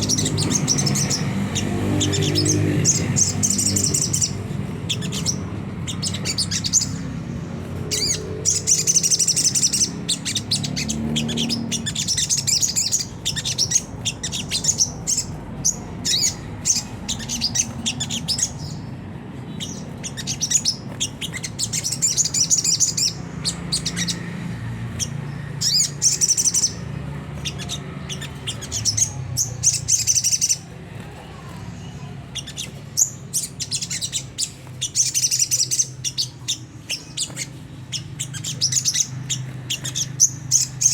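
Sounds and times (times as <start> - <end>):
bird chattering calls: 0.0 - 40.9.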